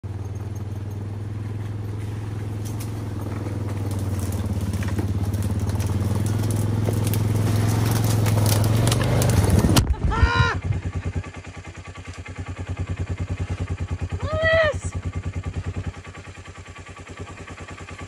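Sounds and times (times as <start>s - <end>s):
quad engine droning: 0.0s - 18.0s.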